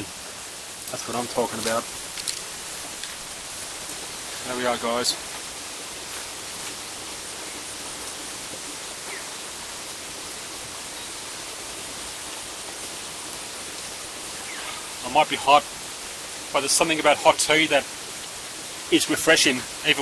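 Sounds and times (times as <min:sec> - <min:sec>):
mountain river rushing: 0:00.0 - 0:20.0.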